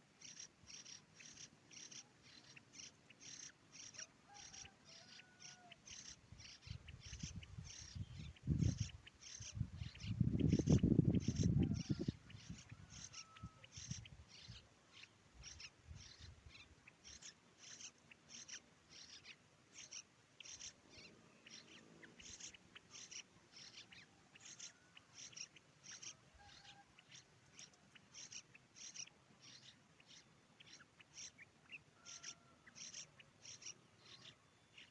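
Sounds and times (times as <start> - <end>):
faint high bird calls: 0.0 - 34.9.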